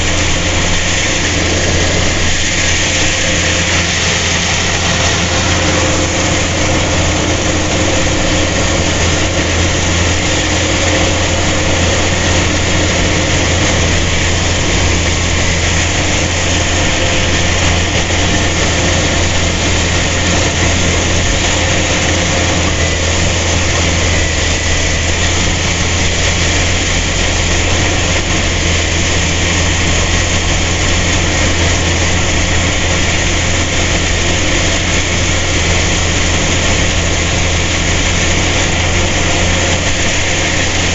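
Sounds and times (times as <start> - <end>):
harvester engine running: 0.0 - 40.9.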